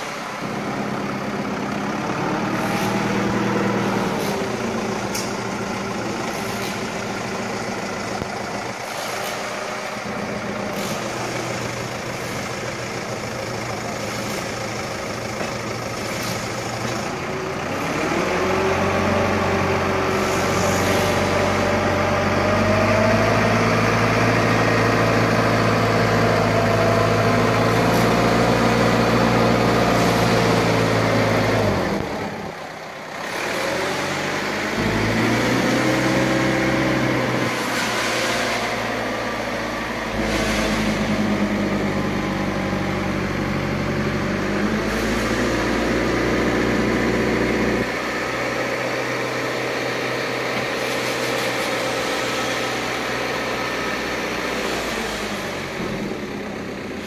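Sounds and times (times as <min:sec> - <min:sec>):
crane engine running: 0:00.0 - 0:57.0.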